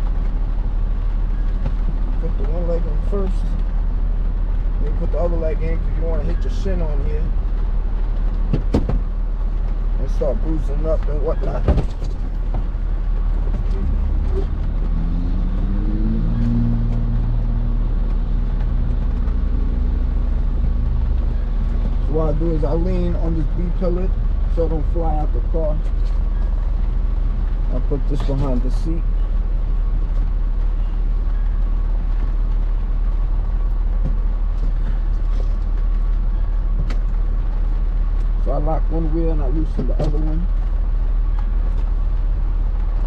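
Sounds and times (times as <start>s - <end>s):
vehicle engine rumbling: 0.0s - 43.0s.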